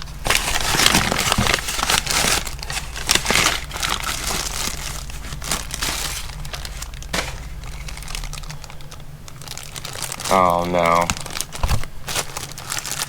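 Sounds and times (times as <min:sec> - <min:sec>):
paper and cardboard crumpling: 0:00.0 - 0:13.0.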